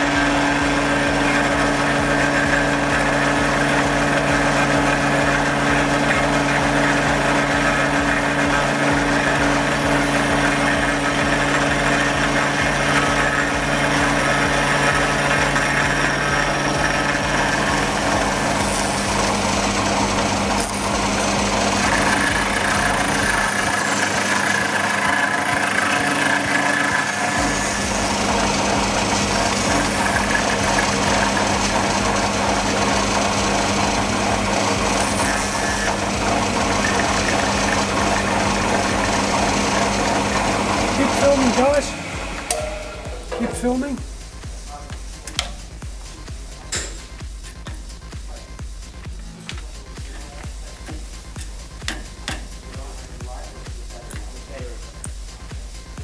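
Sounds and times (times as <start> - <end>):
milling machine cutting metal: 0.0 - 56.0.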